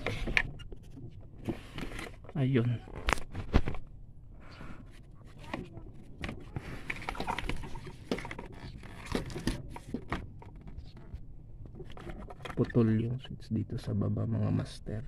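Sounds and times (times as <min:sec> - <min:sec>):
rustling of wiring and plastic: 0:00.0 - 0:04.0, 0:04.6 - 0:13.1.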